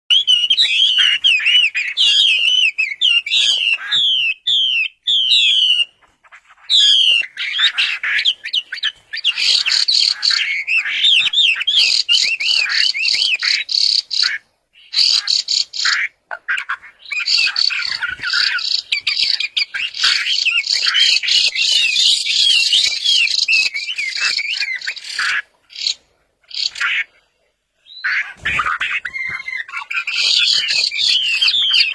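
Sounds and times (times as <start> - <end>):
songbird singing whistled notes: 0.1 - 6.0, 6.6 - 16.0, 17.0 - 26.0, 28.8 - 31.9.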